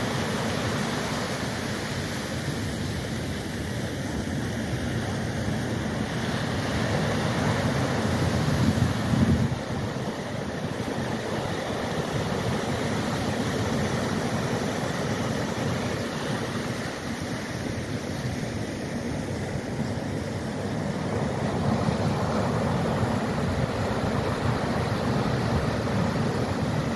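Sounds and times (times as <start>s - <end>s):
ocean surf breaking on beach: 0.0s - 26.9s.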